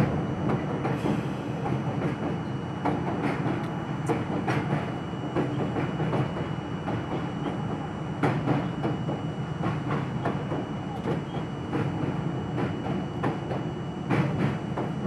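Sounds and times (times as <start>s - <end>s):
subway car rumble: 0.0s - 15.0s.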